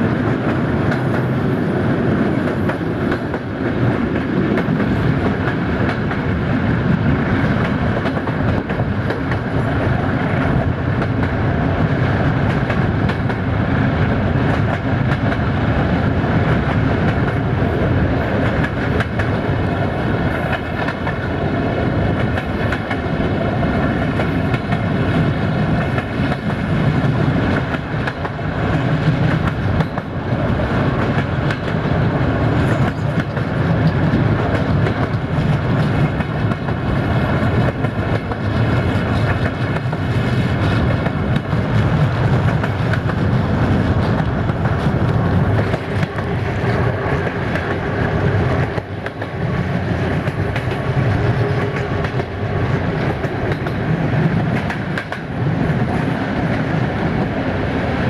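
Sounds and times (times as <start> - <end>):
train wheels clattering over rail joints: 0.0 - 56.5
train rolling rumble: 0.0 - 58.0.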